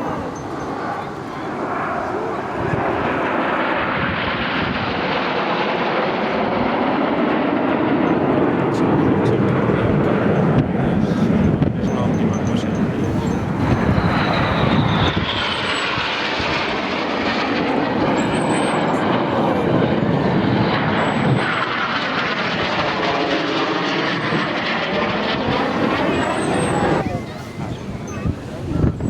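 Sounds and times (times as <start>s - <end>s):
jet aircraft roaring past: 0.0s - 29.0s.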